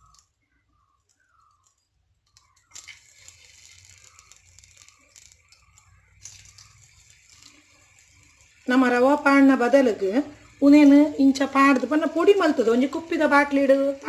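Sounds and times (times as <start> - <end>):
oil sizzling in a pan: 2.4 - 14.0.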